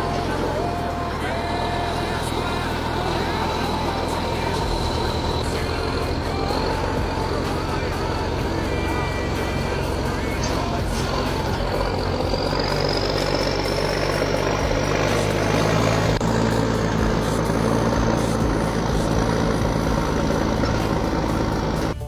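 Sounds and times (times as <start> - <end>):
thin high whine: 0.0 - 22.0
truck engine running: 0.0 - 22.0.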